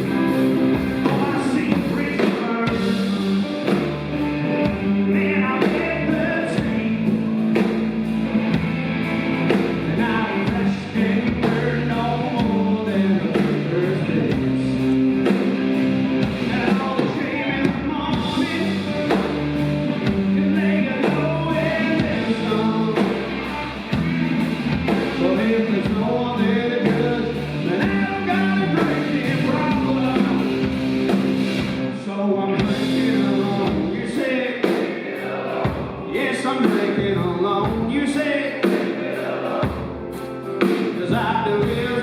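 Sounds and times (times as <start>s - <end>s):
person singing: 0.0s - 7.8s, 9.8s - 15.0s, 16.2s - 24.0s, 25.0s - 30.8s, 31.8s - 42.0s
live rock band with guitar: 0.0s - 42.0s.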